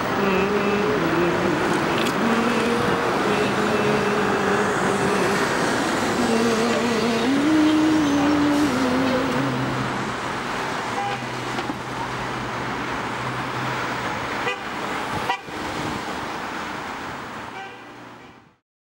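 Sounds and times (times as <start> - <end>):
cars driving past: 0.0 - 18.3.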